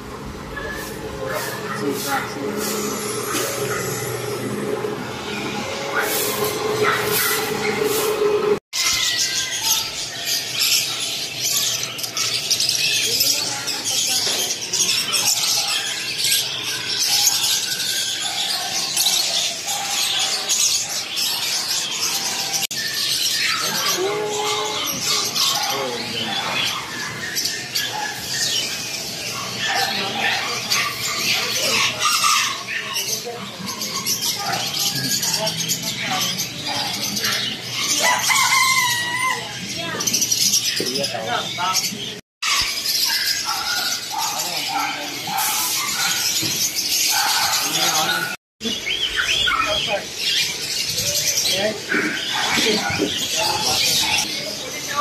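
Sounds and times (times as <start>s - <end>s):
voices: 0.0s - 55.0s
small birds chirping: 0.6s - 55.0s.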